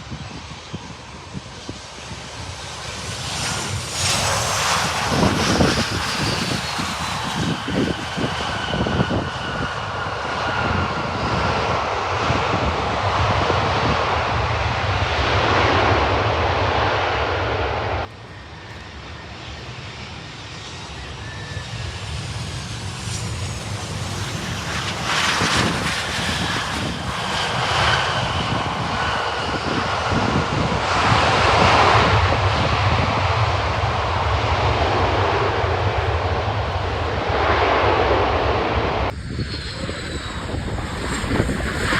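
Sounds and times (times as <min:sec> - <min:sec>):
jet engines roaring with whine: 0:00.0 - 0:41.9.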